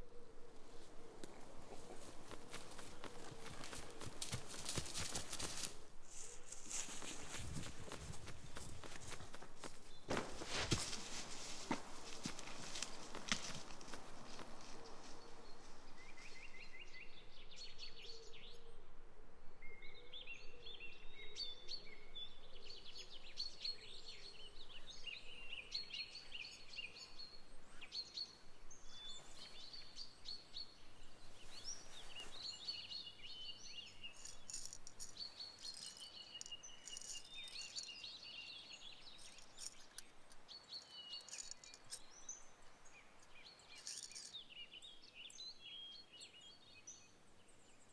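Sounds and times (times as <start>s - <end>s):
small birds chirping: 0.0s - 18.1s, 22.6s - 47.9s.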